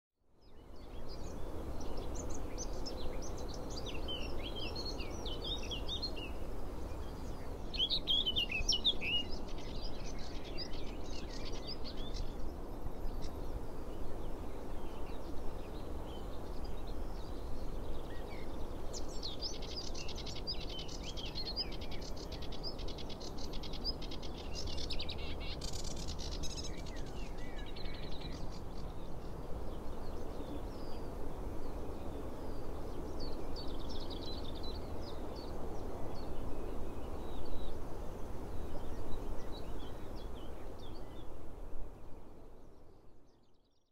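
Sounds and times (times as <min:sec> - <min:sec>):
birds chirping and twittering: 0:00.5 - 0:37.8.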